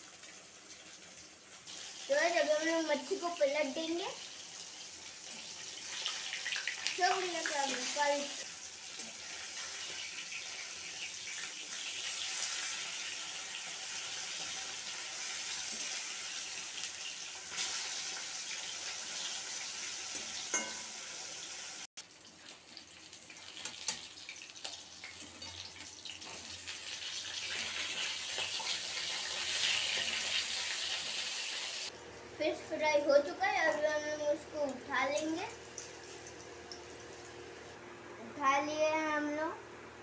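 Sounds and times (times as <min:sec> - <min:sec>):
fish sizzling in hot oil: 0:00.0 - 0:31.9, 0:34.6 - 0:37.8.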